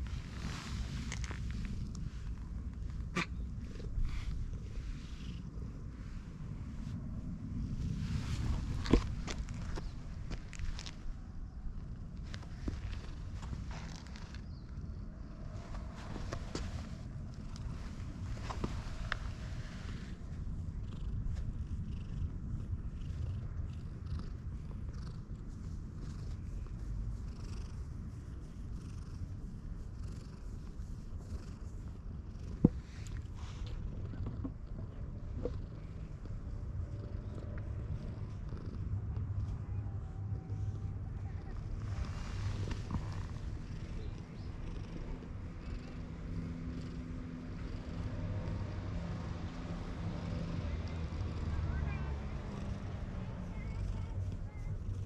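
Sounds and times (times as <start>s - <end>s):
cat purring: 0.0s - 55.0s
steady low hum: 0.0s - 55.0s.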